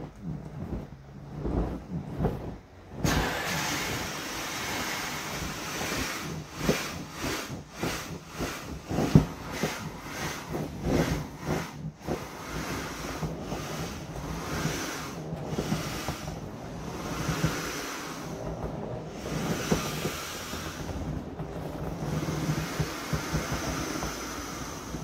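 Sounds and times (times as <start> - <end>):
air hissing from valve: 3.0 - 18.4, 19.1 - 21.2, 22.0 - 25.0.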